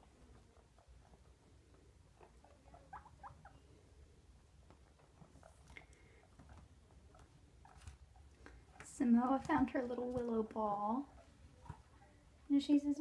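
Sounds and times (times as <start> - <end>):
guinea pig squeaks: 0.0 - 13.0.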